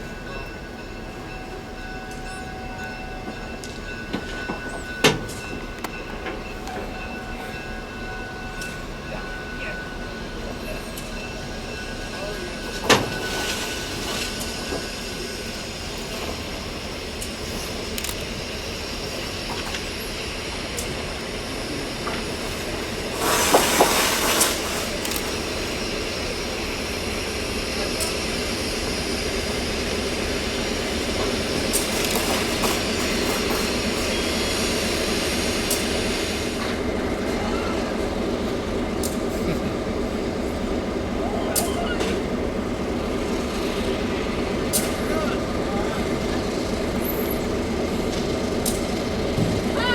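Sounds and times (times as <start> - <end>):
train rail noise: 0.0 - 49.9.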